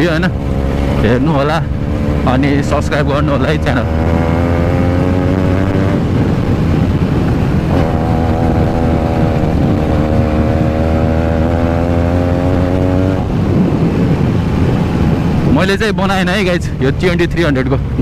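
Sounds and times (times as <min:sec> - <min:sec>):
motorcycles cruising: 0:00.0 - 0:18.0.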